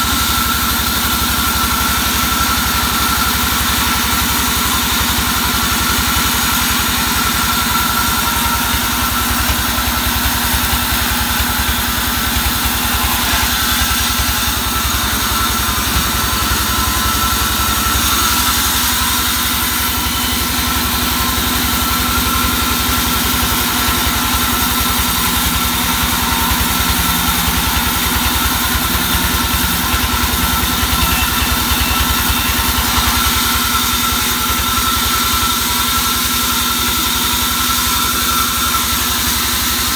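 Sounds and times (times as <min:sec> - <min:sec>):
band saw drone and whine: 0:00.0 - 0:39.9.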